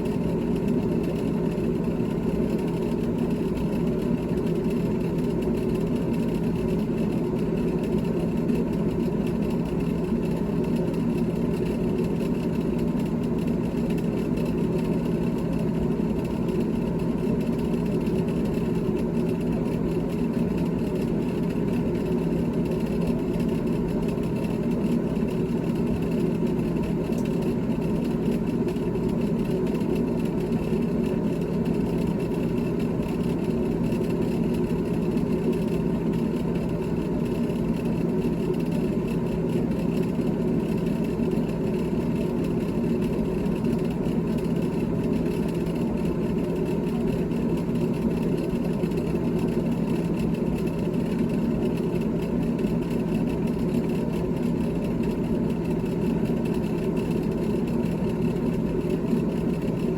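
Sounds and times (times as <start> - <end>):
refrigerator humming: 0.0 - 59.9.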